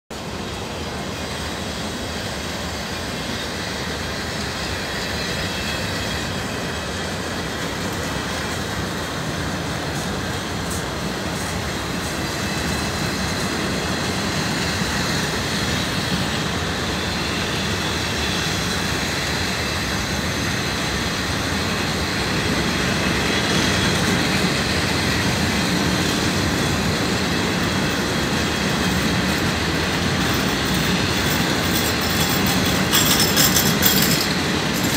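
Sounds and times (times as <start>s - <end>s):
freight train rolling rumble: 0.1s - 34.9s.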